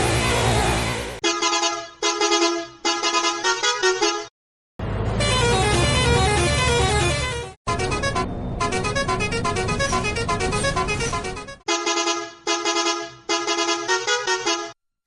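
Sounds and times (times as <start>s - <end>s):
musical horn melody: 1.2s - 4.3s, 5.1s - 14.8s.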